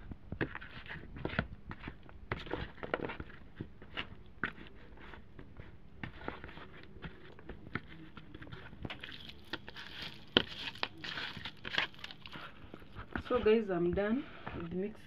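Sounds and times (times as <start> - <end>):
hand squishing raw meat: 0.4 - 13.3.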